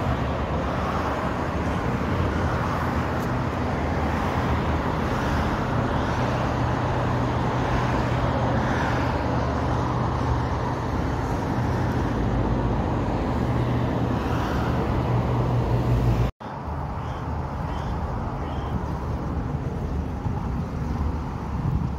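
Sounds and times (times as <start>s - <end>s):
distant road traffic rumble: 0.0s - 21.9s.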